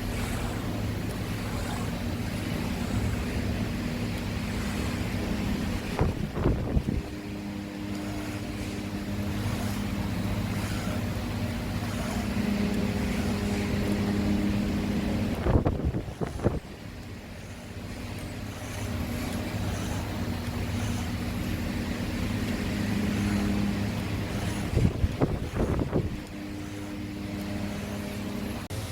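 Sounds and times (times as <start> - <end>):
woodworking power tool humming: 0.0 - 28.9.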